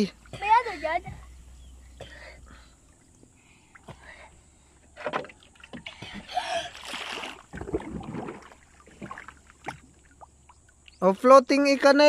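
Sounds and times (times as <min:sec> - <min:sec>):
water splashing against wooden boat: 0:00.1 - 0:11.2.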